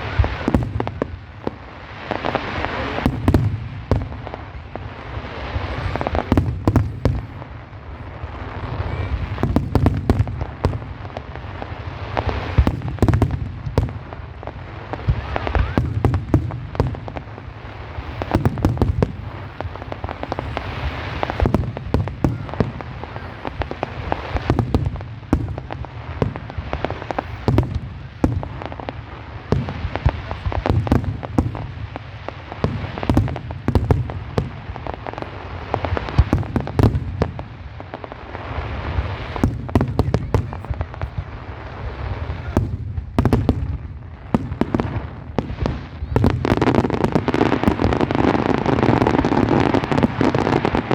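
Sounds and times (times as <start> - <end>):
fireworks booming: 0.0 - 50.9
fireworks cracking and crackling: 0.0 - 50.9.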